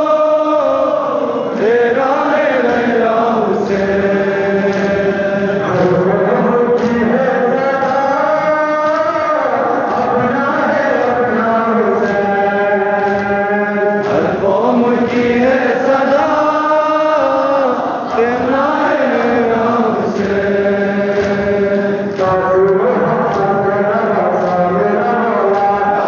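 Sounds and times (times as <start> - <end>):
men chanting a lament: 0.0 - 26.0.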